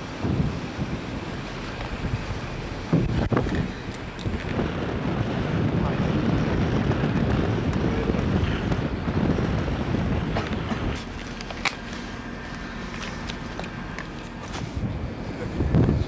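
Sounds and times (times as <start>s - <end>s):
sea and ship noise: 0.0s - 16.0s
wind buffeting microphone: 0.0s - 16.0s.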